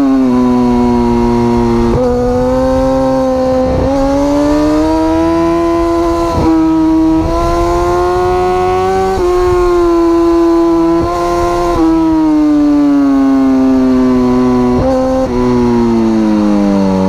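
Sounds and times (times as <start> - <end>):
motorcycle engine revving with gear changes: 0.0 - 17.0.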